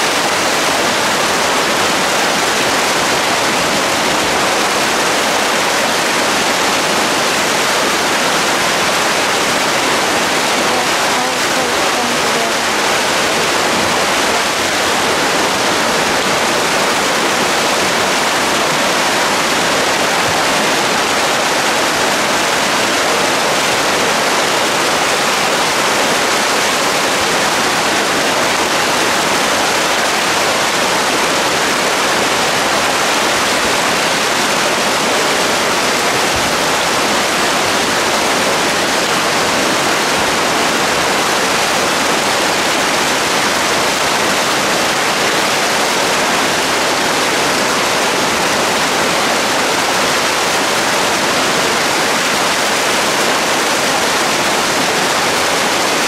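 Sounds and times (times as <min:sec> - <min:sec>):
water rushing over weir: 0:00.0 - 0:56.0.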